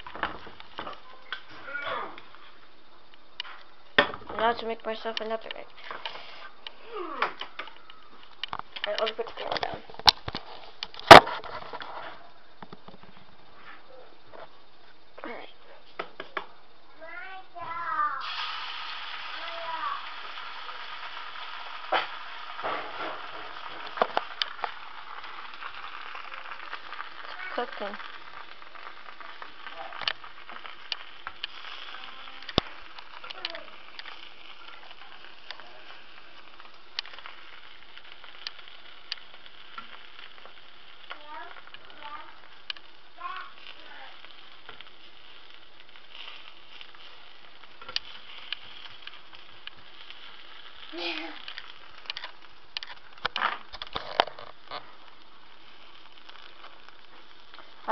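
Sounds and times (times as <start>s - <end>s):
egg sizzling in frying pan: 0.0s - 15.4s, 16.0s - 57.9s.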